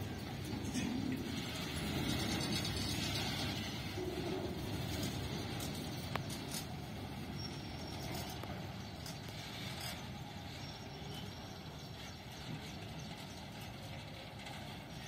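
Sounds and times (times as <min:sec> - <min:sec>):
train wagons rumbling on track: 0:00.0 - 0:15.0.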